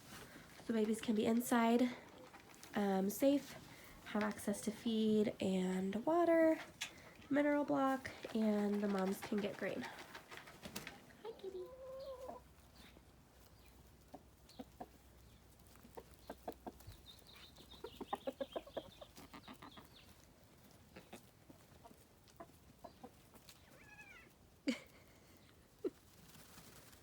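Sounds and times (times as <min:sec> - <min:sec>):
chickens clucking: 0:00.0 - 0:04.8, 0:05.4 - 0:23.9.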